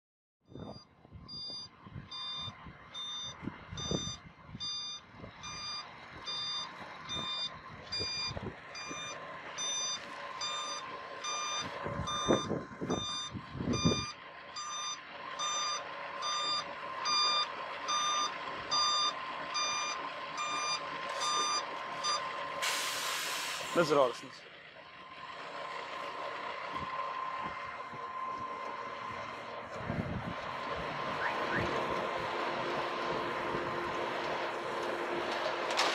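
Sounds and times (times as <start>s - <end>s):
diesel engine rumble: 0.4s - 35.9s
truck reversing alarm beeping: 0.5s - 24.0s, 26.4s - 34.2s.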